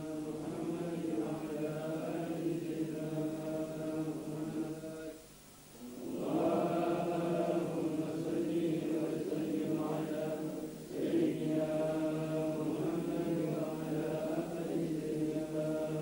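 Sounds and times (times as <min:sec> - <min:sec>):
men chanting a prayer: 0:00.0 - 0:05.2, 0:05.8 - 0:16.0.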